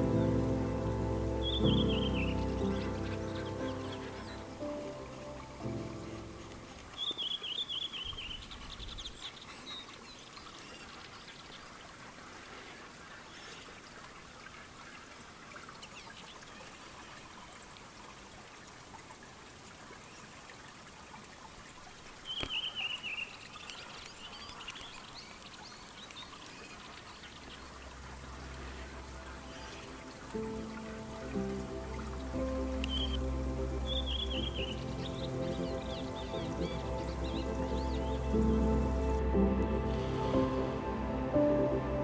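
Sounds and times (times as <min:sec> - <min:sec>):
running water hiss: 0:00.0 - 0:42.0.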